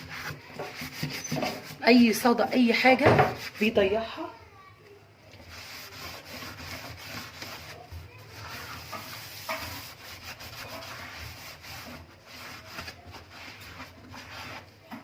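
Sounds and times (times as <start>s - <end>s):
sponge scrubbing a tap: 0.0s - 4.0s, 5.3s - 15.0s.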